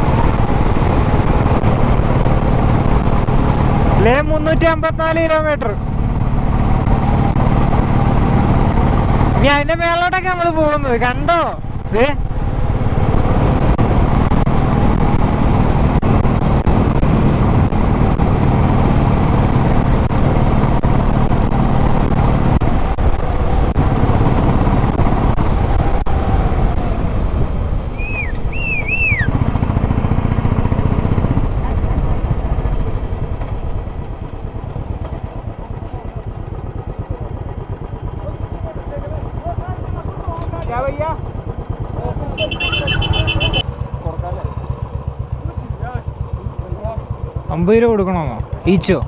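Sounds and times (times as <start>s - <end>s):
motorcycle engine running: 0.0s - 49.0s
road and wind noise: 0.0s - 49.0s.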